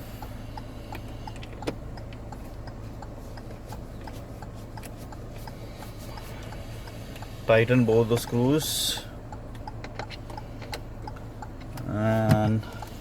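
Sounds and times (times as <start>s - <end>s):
steady ticking: 0.0s - 13.0s.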